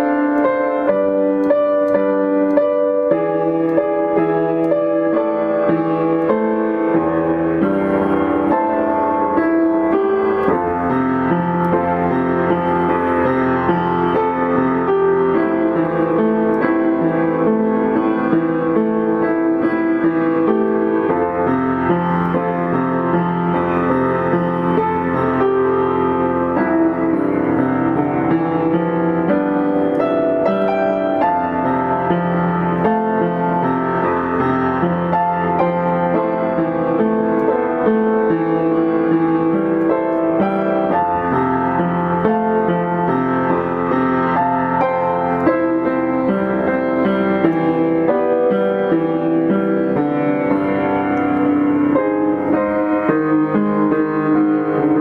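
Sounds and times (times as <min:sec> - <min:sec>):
background piano music: 0:00.0 - 0:55.0.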